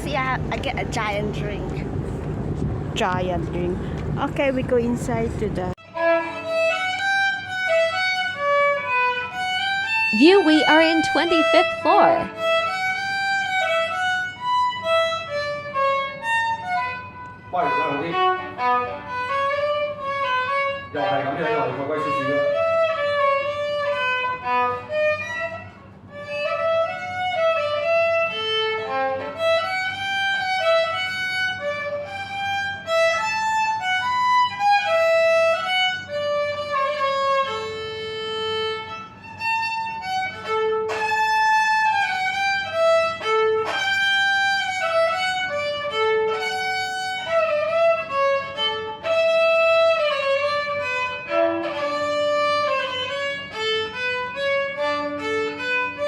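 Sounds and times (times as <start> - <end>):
bowed string instrument melody: 4.8 - 56.0.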